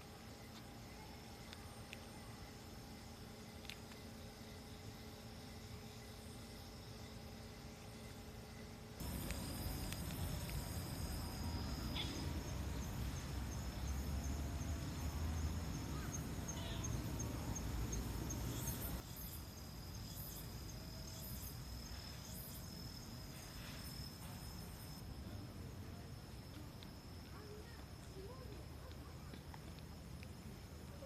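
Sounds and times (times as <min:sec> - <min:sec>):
insect high trill: 0:00.0 - 0:25.4
insect high chirps: 0:00.0 - 0:31.0.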